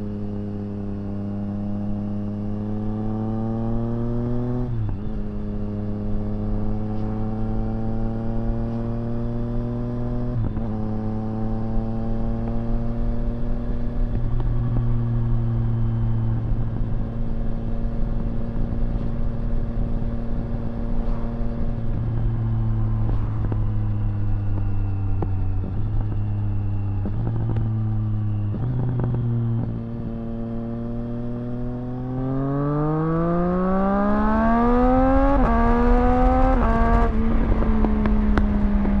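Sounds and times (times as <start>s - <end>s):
motorcycle engine revving: 0.0s - 19.1s, 19.7s - 39.0s.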